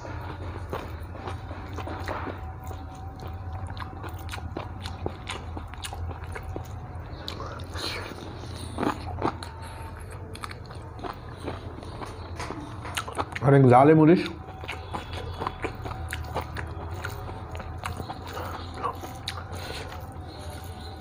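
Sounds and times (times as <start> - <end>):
man chewing food: 0.0 - 21.0
steady low hum: 0.0 - 21.0.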